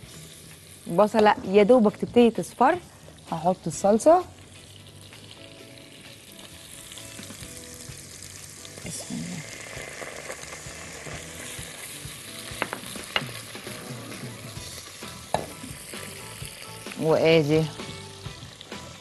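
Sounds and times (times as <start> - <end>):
onion sizzling in oil: 0.0 - 19.0.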